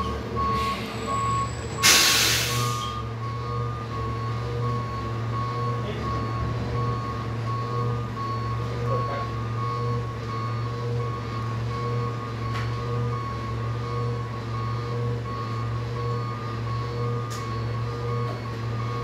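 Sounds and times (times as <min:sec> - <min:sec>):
backup alarm beeping: 0:00.0 - 0:19.0
truck engine running: 0:00.0 - 0:19.0.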